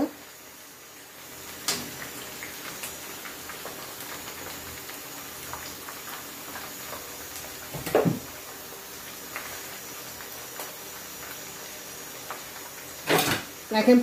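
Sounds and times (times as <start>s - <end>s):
deep-frying sizzle with pops: 0.0s - 14.0s.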